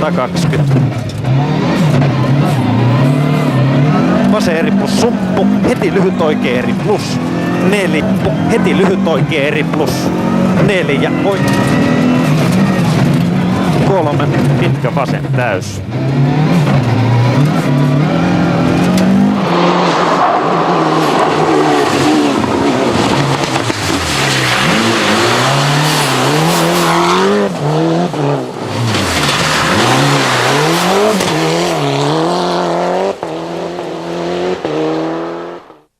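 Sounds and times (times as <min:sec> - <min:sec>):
rally car engine revving hard: 0:00.0 - 0:35.9.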